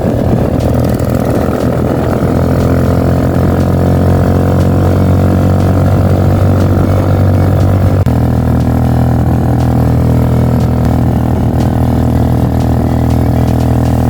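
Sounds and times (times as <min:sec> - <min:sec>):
engine running with deep drone: 0:00.0 - 0:14.0.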